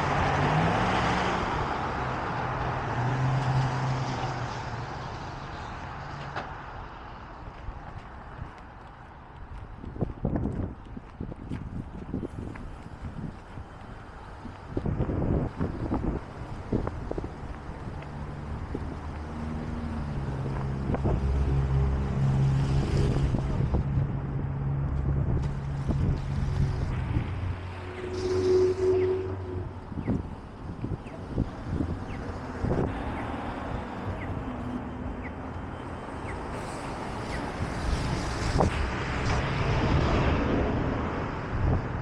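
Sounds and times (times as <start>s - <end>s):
street noise: 0.0s - 42.0s
traffic rumbling: 0.0s - 42.0s
vehicle engine humming: 4.9s - 40.0s
wind buffeting microphone: 7.4s - 34.6s, 35.2s - 42.0s.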